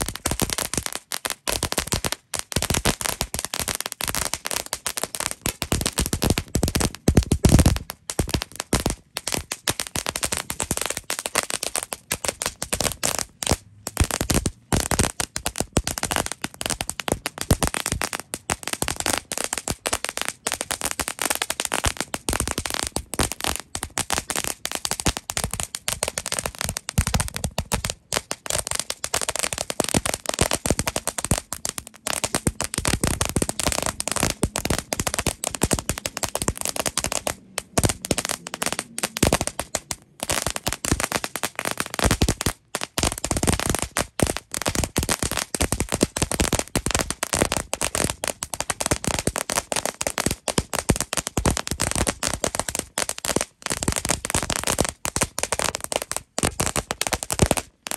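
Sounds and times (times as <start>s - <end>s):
firework crackling pops: 0.0s - 57.9s.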